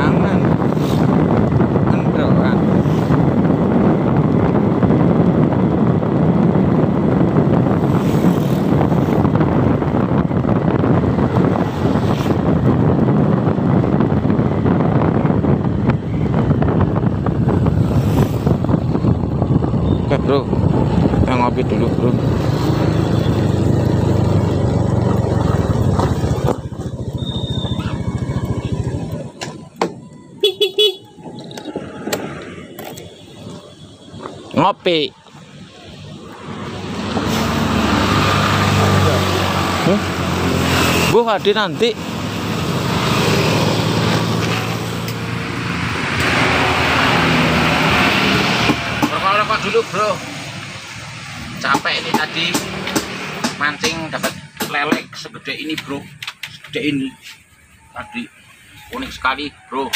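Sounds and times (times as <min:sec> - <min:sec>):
vehicle running noise: 0:00.0 - 0:59.9
wind rushing over microphone: 0:00.0 - 0:59.9.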